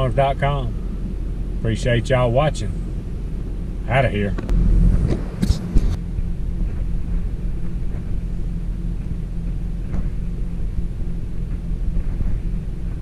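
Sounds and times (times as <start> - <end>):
vehicle engine low hum: 0.0 - 13.0.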